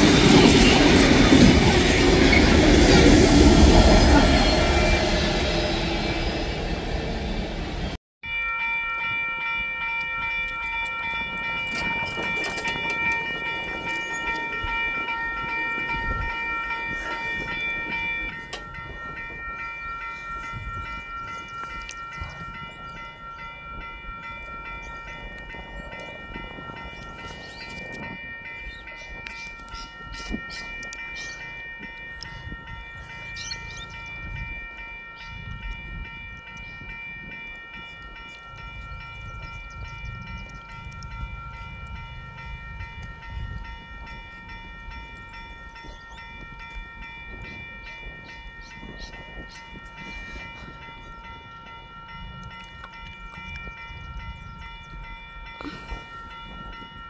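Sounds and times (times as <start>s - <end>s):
diesel locomotive passing: 0.0s - 8.0s, 10.0s - 57.0s.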